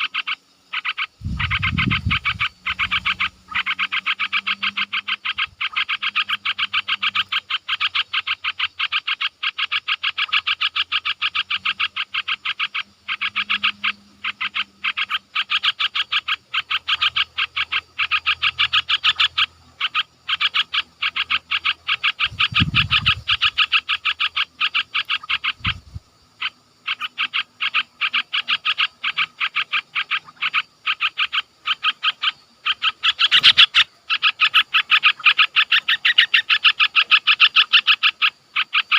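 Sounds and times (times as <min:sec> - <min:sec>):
small animal chirping: 0:00.0 - 0:38.9.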